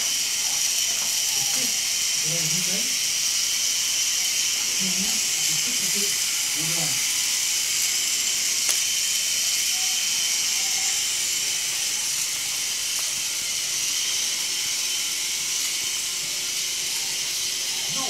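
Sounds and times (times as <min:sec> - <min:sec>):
toy ball machine gears hissing: 0:00.0 - 0:18.0.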